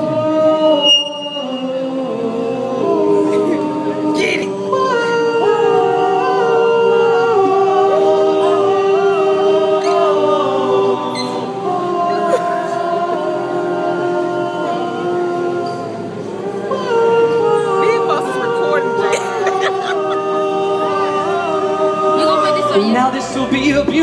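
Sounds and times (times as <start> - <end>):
men's choir singing in harmony: 0.0 - 24.0.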